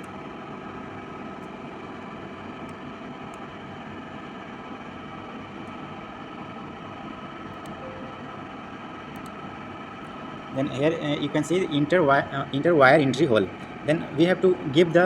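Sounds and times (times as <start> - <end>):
machinery hum and hiss: 0.0 - 15.0.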